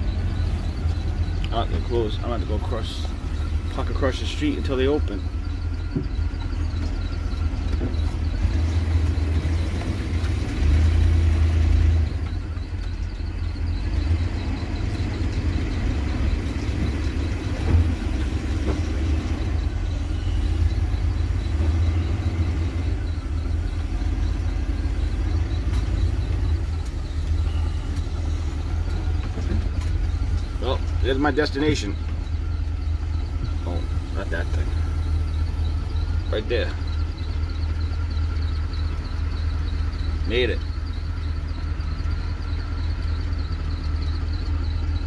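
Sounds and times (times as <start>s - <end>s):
engine low rumble: 0.0s - 45.0s.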